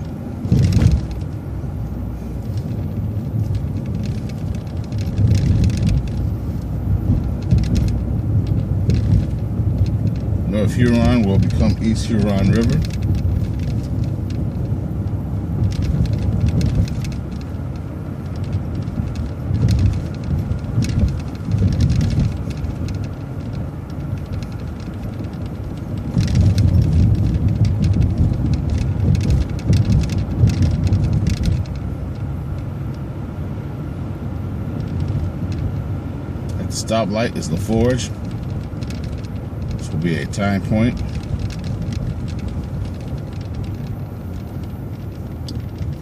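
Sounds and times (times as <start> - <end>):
light clicks and rattles: 0.0 - 33.1, 34.6 - 46.0
bus engine and road rumble: 0.0 - 46.0.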